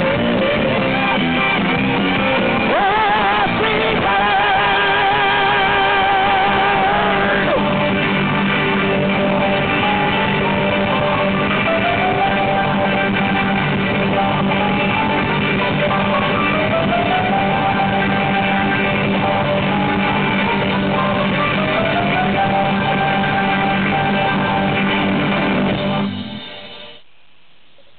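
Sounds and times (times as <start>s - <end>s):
rock band with guitars: 0.0s - 27.1s.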